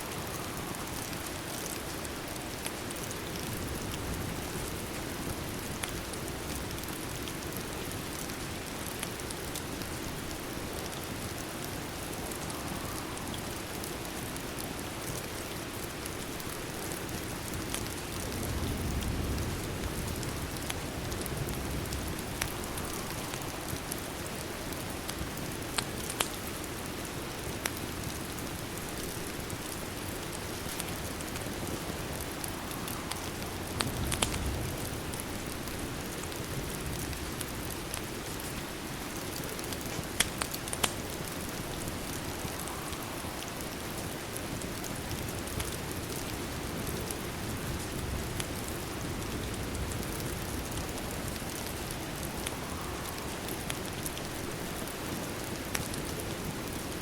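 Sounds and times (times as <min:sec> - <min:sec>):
steady rain falling: 0:00.0 - 0:57.0
fireplace crackling and popping: 0:00.1 - 0:57.0.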